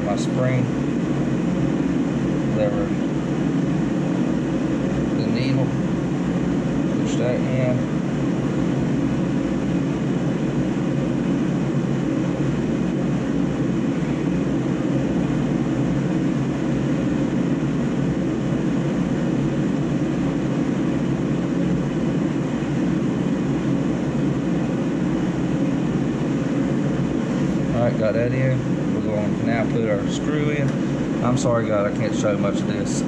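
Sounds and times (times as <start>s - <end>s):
low rumbling background noise: 0.0s - 33.0s.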